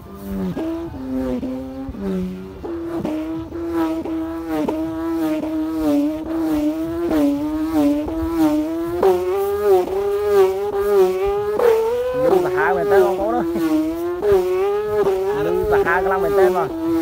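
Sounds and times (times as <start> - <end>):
whirled kite hummer humming: 0.0 - 17.0.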